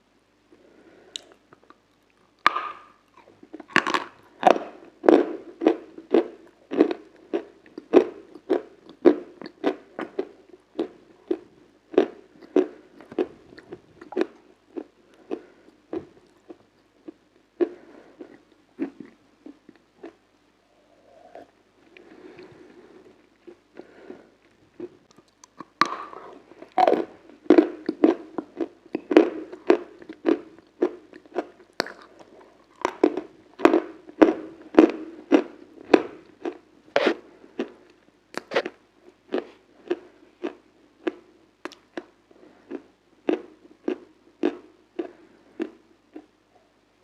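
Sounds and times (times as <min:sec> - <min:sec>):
mouth crunching hard food: 0:01.2 - 0:20.2, 0:23.4 - 0:46.3.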